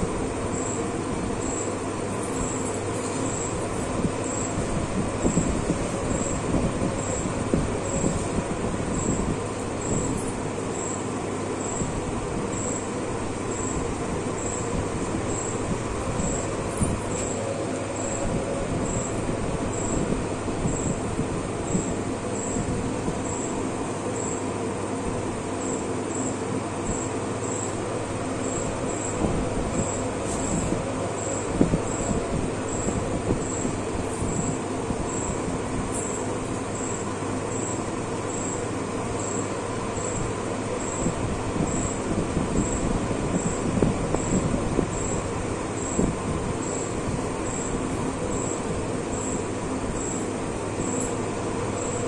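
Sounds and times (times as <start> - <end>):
low machine hum: 0.0 - 52.0
machine whirring hiss: 0.0 - 52.0
steady fan noise: 0.0 - 52.0.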